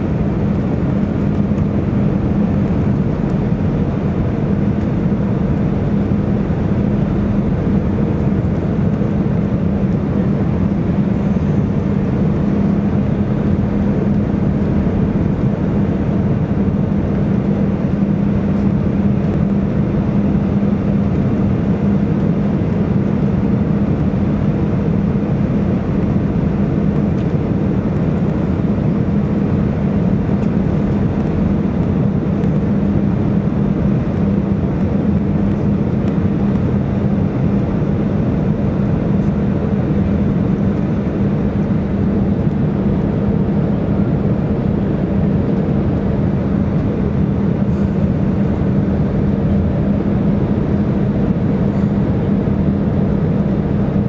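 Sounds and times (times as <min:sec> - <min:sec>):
airplane cabin jet engine rush: 0:00.0 - 0:54.0.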